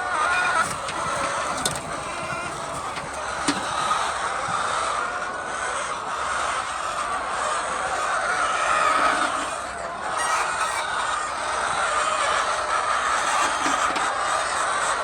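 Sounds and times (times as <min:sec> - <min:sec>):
flock of chickens calling: 0:00.0 - 0:15.0.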